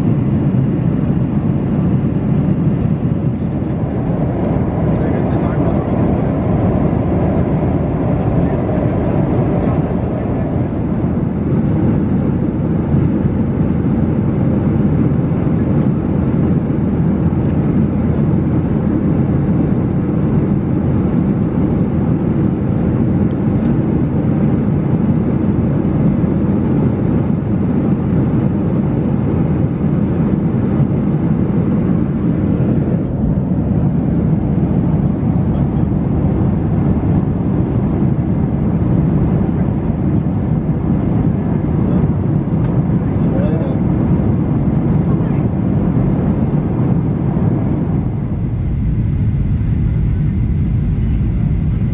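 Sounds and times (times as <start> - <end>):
airplane cabin noise: 0.0 - 51.9.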